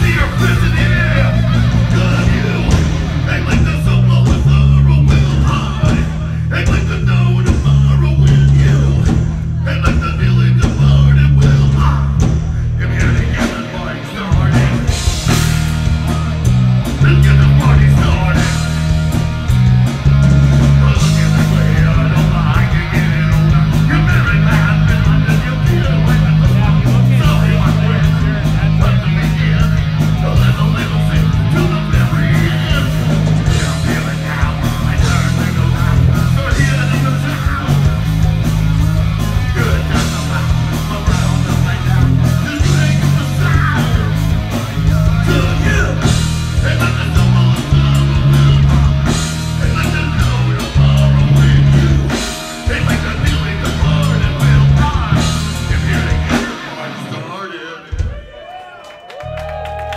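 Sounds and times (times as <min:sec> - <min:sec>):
drum kit: 0:00.0 - 0:57.2, 0:57.9 - 0:58.6, 0:59.2 - 0:59.9
electric guitar: 0:00.0 - 0:58.1.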